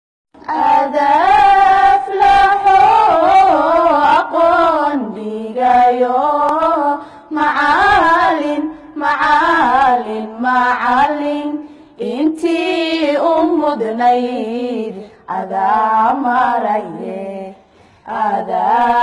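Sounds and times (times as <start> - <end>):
person singing a chant-like melody: 0.4 - 19.0.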